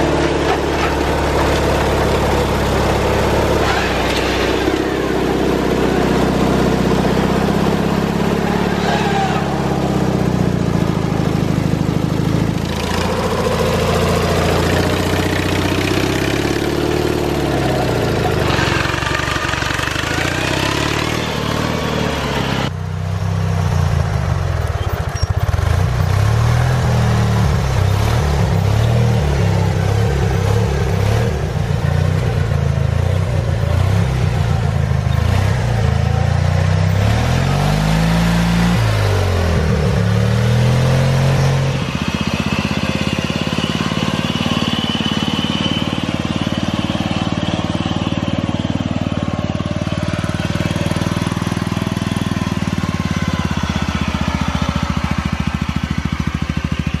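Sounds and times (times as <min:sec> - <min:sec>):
small engines revving: 0:00.0 - 0:22.7, 0:24.7 - 0:57.0.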